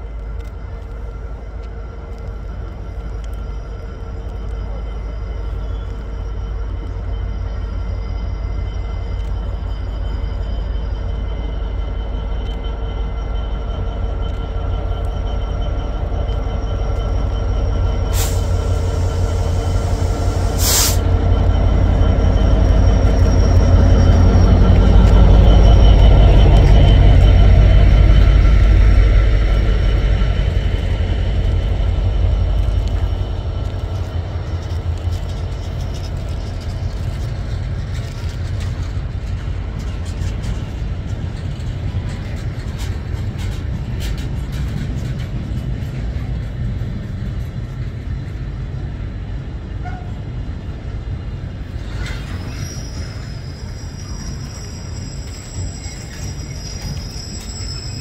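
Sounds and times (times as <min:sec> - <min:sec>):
diesel locomotive engine rumble: 0:00.0 - 0:58.0
train wagons clattering past: 0:00.0 - 0:58.0.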